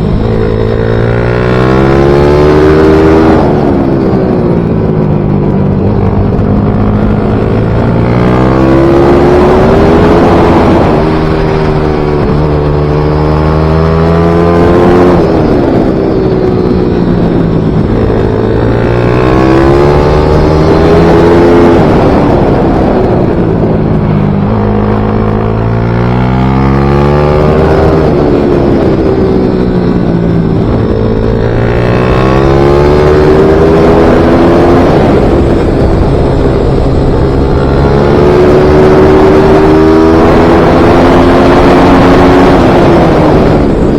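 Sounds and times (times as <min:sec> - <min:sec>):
small motorcycle engine revving: 0:00.0 - 0:05.1, 0:05.7 - 0:43.9.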